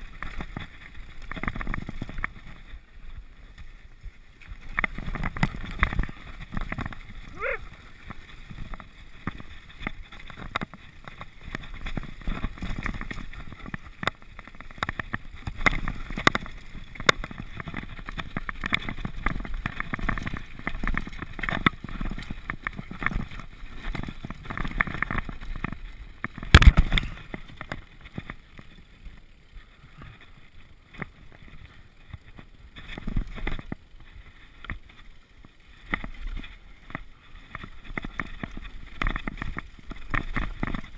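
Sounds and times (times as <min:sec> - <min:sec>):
bike rattling: 0:00.0 - 0:40.9
bike tyres over roots and rock: 0:00.0 - 0:40.9.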